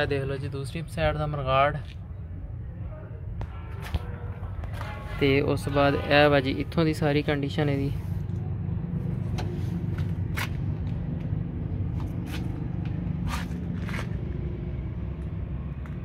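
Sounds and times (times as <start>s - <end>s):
low engine drone: 2.0s - 16.0s.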